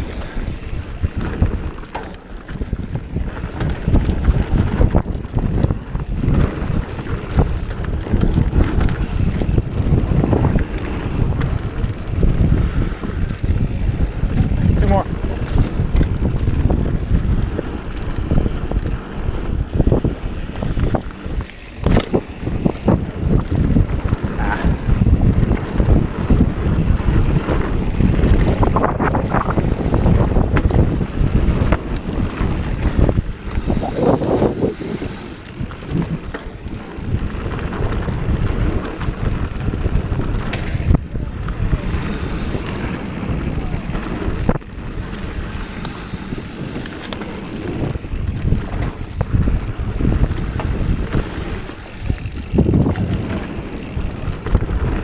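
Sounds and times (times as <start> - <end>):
bike rattling over bumps: 0.0 - 55.0
mountain bike rumbling on dirt: 0.0 - 55.0
wind buffeting microphone: 0.0 - 55.0.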